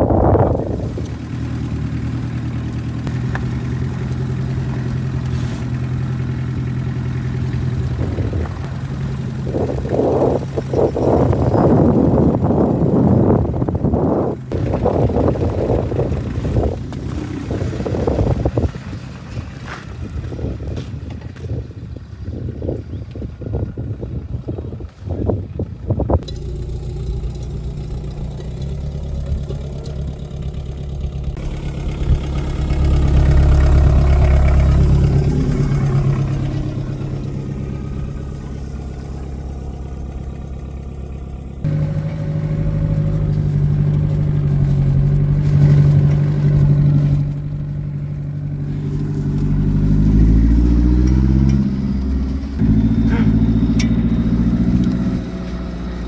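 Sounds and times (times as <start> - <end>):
car engine revving: 0.0 - 19.9, 26.2 - 56.0.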